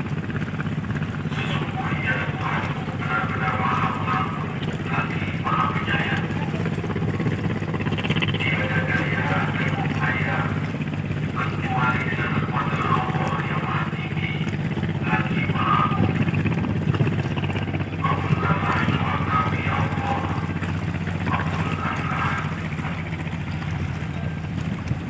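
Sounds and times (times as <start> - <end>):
ship diesel engines droning: 0.0 - 25.0
indistinct voices: 1.2 - 16.4, 17.5 - 24.4.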